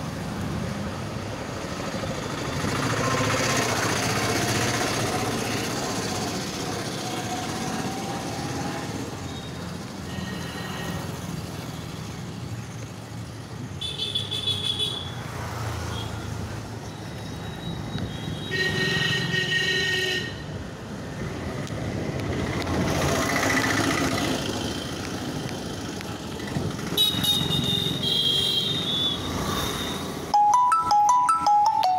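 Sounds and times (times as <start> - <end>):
rumble of passing traffic: 0.0 - 31.9.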